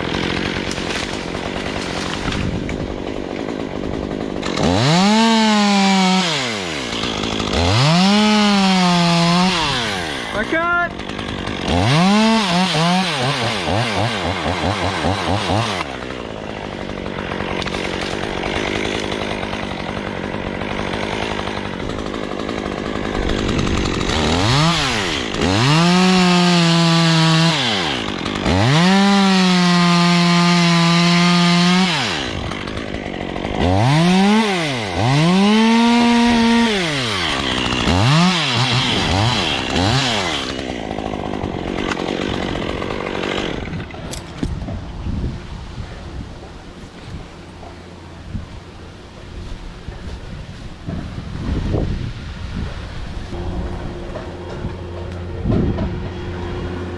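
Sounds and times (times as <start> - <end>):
chainsaw idling and revving: 0.0 - 45.0, 45.9 - 51.8, 53.0 - 56.9
chainsaw cutting at full throttle: 0.0 - 56.9.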